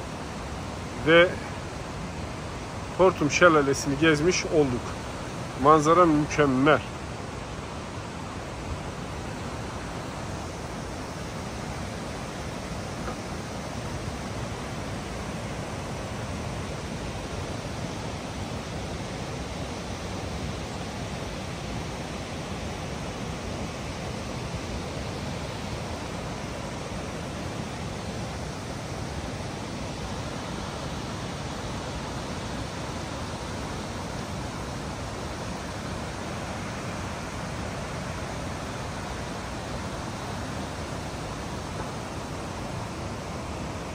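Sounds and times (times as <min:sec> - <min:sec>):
waterfall roaring: 0:00.0 - 0:43.9.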